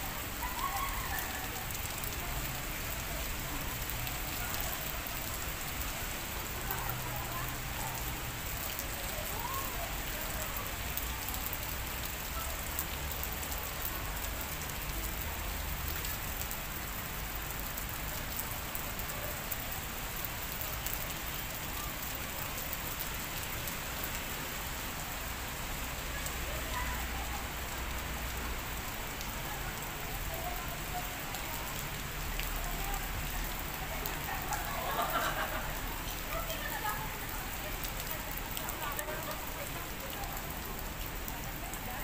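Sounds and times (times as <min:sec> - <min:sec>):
rain hissing on pavement: 0:00.0 - 0:42.0
raindrop ticks: 0:00.5 - 0:24.2, 0:27.6 - 0:42.0.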